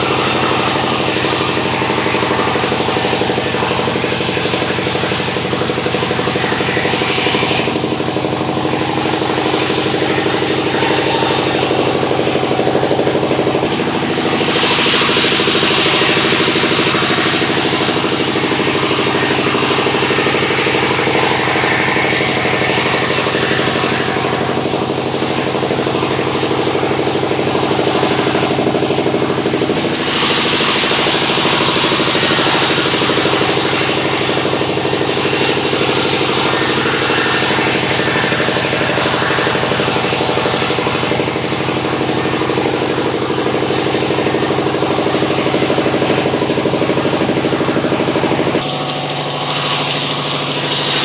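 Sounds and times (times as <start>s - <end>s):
engine running steadily: 0.0s - 51.0s
hissing noise: 0.0s - 51.0s.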